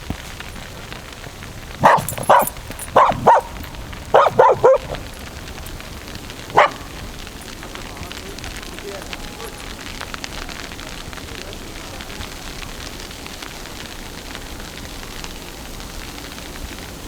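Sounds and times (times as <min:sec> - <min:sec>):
small crackling ticks: 0:00.0 - 0:17.0
snowstorm rushing noise: 0:00.0 - 0:17.0.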